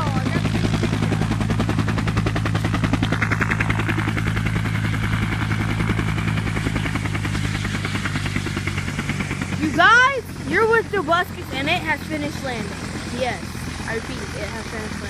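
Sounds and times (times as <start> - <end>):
helicopter rotor thumping: 0.0 - 15.0
low engine hum: 0.0 - 15.0.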